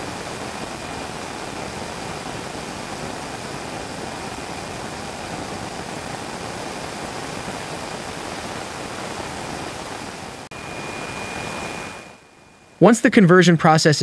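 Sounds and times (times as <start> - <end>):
jet engine rushing: 0.0 - 13.2
high whine: 0.0 - 14.0.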